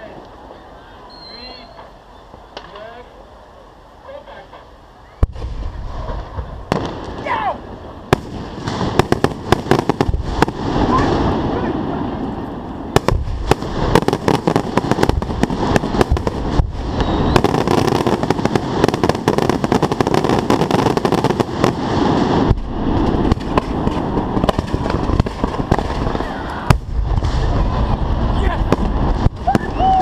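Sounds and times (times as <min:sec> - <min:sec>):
hissing rush of rising fireworks: 0:00.0 - 0:30.0
fireworks bangs and pops: 0:04.5 - 0:07.4, 0:08.1 - 0:12.3, 0:12.9 - 0:30.0.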